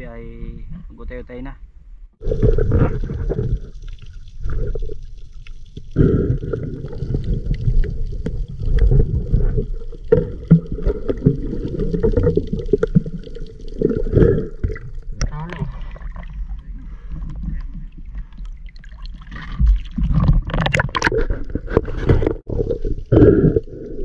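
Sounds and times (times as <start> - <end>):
underwater gurgling and sloshing: 2.2 - 24.0.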